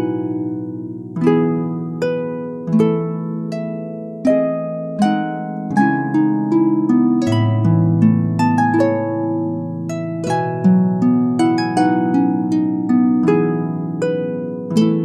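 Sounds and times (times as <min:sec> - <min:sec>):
calm harp music: 0:00.0 - 0:15.0.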